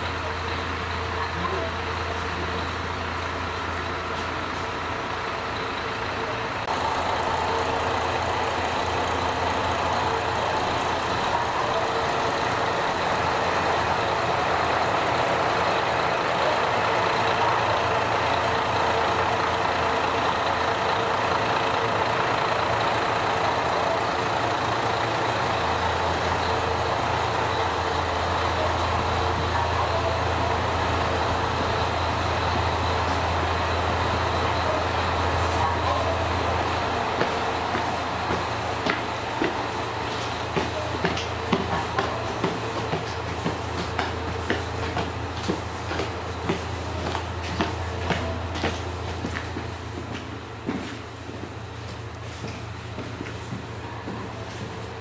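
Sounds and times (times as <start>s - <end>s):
diesel railcar engine idling: 0.0s - 55.0s.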